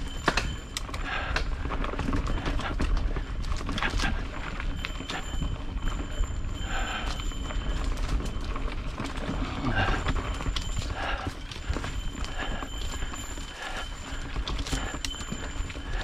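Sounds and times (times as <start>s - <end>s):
bike rattling over rocky trail: 0.0s - 16.0s.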